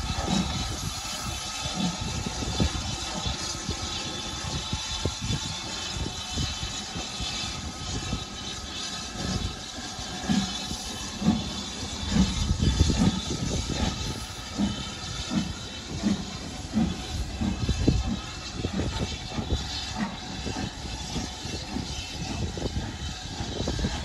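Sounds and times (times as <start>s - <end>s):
steam hissing: 0.0s - 24.0s
steam locomotive exhaust chuffs: 0.0s - 24.0s.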